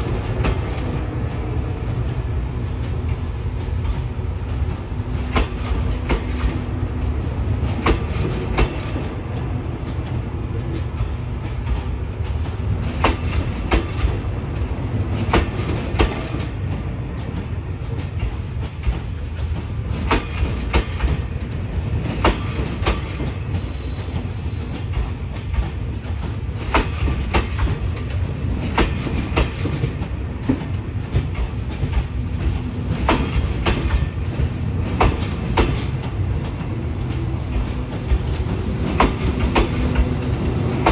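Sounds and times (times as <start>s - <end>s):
train low rumble: 0.0s - 40.9s
train wheels knocking over rail joints: 2.8s - 40.9s.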